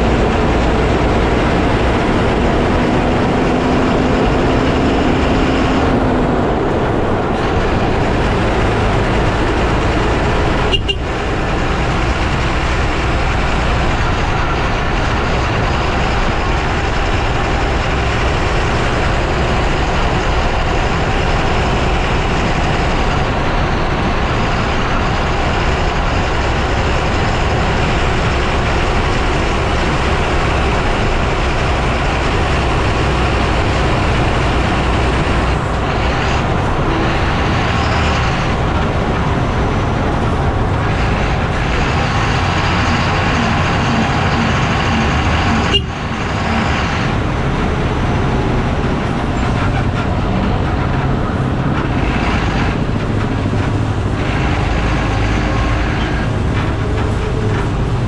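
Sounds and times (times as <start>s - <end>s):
lorry tyre and road noise: 0.0s - 58.0s.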